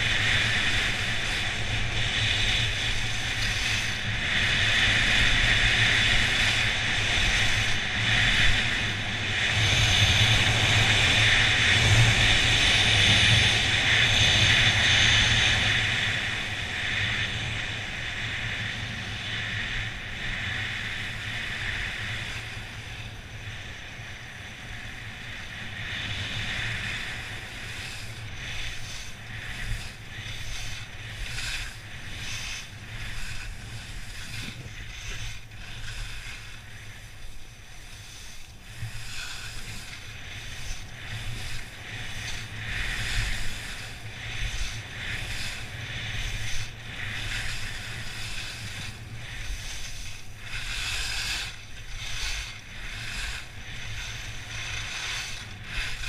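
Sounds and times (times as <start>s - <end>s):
skis scraping over snow: 0.0s - 56.0s
wind on microphone: 0.0s - 56.0s.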